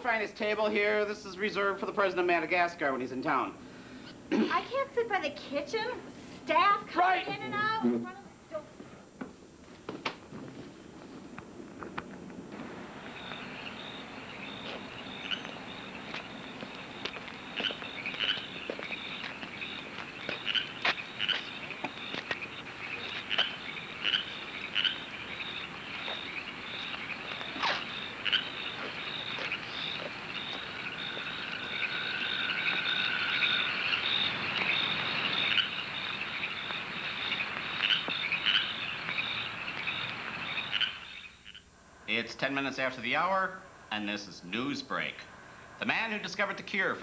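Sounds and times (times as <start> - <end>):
crickets chirping: 0.0 - 8.8, 10.6 - 47.0.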